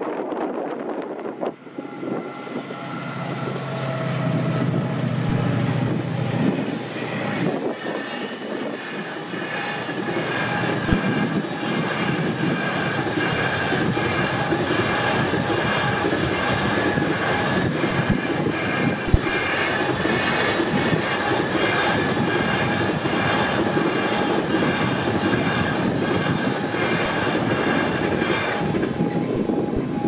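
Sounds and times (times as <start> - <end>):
train wheels rumbling: 0.0 - 30.0
train engine low note: 1.2 - 30.0
high multi-tone whine: 1.7 - 30.0.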